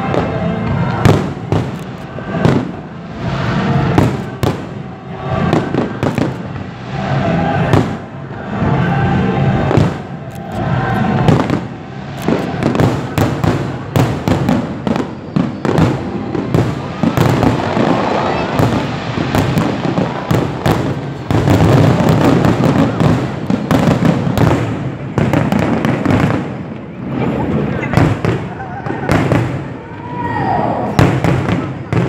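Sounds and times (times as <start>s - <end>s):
fireworks banging: 0.0s - 32.0s.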